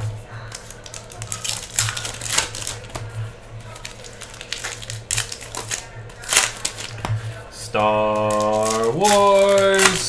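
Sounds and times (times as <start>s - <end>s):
cards rustling: 0.4s - 10.0s
wrappers crinkling and tearing: 0.4s - 10.0s.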